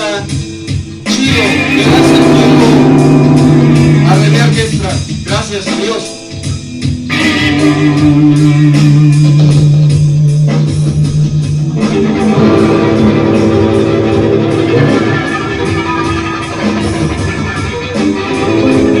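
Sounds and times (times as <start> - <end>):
bass guitar: 0.0 - 19.0
electric guitar: 0.0 - 19.0.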